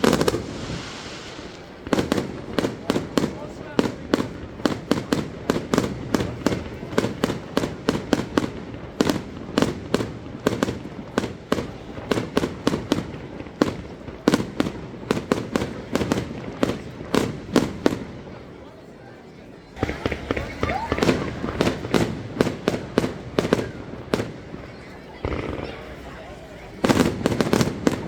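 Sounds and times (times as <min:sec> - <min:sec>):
fireworks bangs and cracks: 0:00.0 - 0:18.6, 0:19.7 - 0:28.0.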